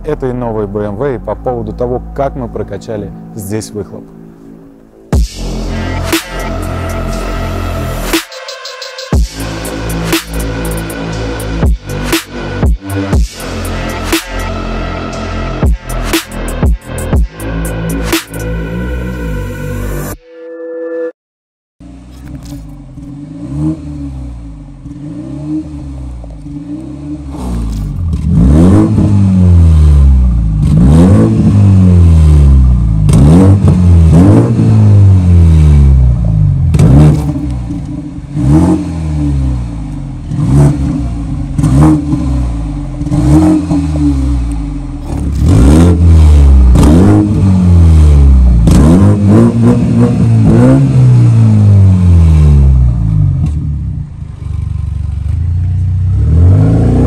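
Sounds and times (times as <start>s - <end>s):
car engine idling and revving: 0.0s - 20.2s, 21.8s - 57.0s.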